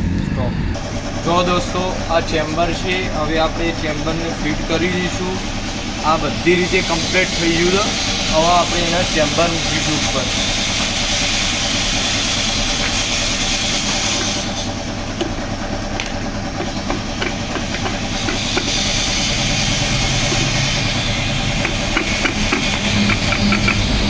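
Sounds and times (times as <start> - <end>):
mechanical hum with hiss: 0.0 - 24.0.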